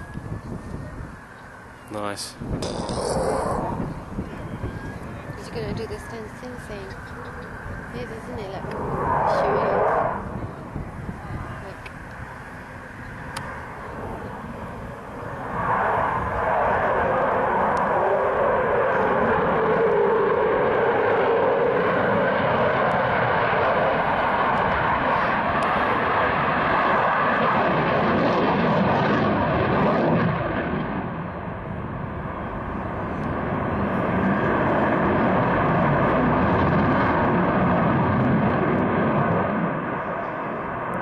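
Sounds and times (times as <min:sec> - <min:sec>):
jet engine roar: 0:00.0 - 0:41.0.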